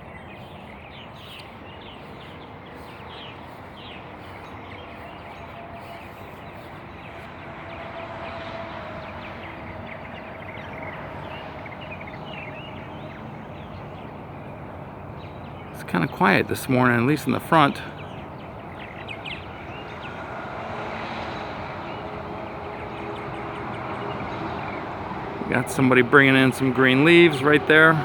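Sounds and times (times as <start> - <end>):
birds chirping and chattering: 0.0 - 28.0.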